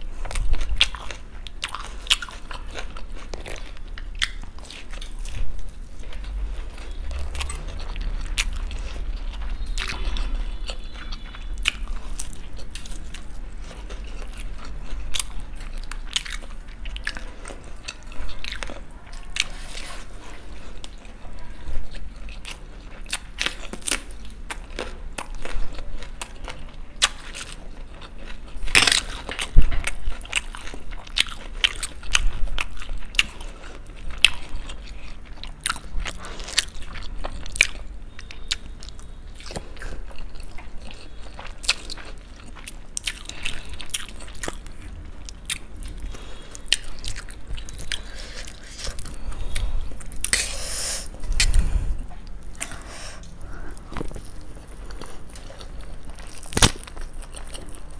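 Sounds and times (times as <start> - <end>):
crunchy biting and chewing: 0.0 - 57.9.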